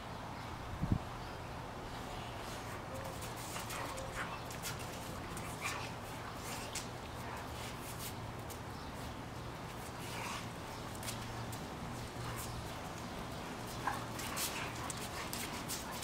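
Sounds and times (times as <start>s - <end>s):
paws scuffing on concrete: 2.4s - 16.0s.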